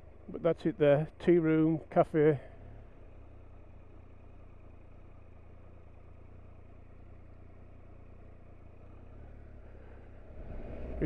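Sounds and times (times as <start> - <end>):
motorcycle engine low hum: 0.0 - 11.0.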